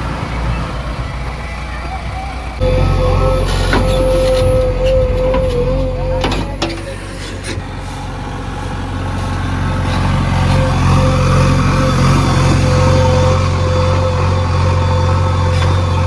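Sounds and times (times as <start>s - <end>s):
diesel engine running: 0.0s - 16.0s
thin steady whine: 0.0s - 16.0s.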